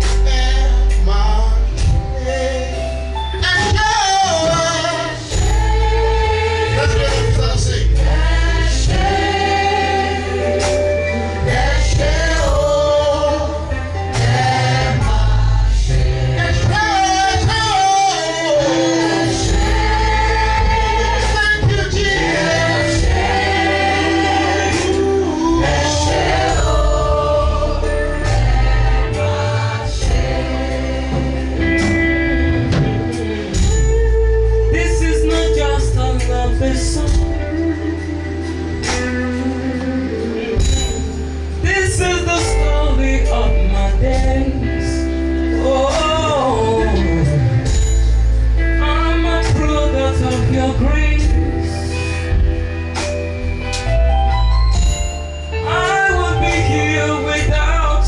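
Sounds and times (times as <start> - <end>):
band with bass and percussion: 0.0 - 58.0
gospel choir singing: 0.0 - 58.0.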